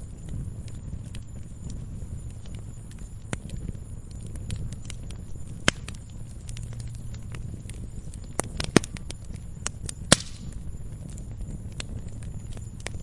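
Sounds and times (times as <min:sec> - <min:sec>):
low rumble of flames: 0:00.0 - 0:13.0
wood fire pops and snaps: 0:00.0 - 0:13.0.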